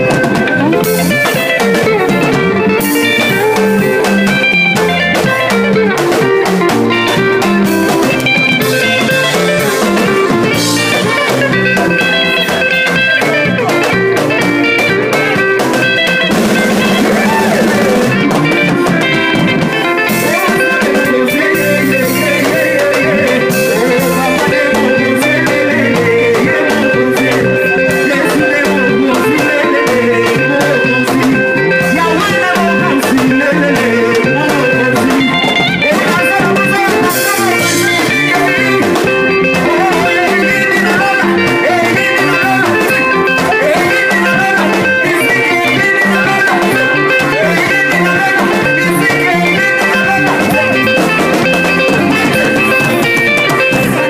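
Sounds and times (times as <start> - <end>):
electric guitar: 0.0 - 54.0
live band music over speakers: 0.0 - 54.0.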